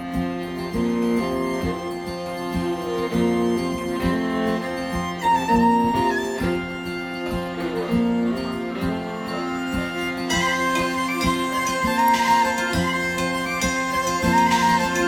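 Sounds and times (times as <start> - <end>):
fiddle melody: 0.0 - 15.0
plucked guitar: 0.0 - 15.0.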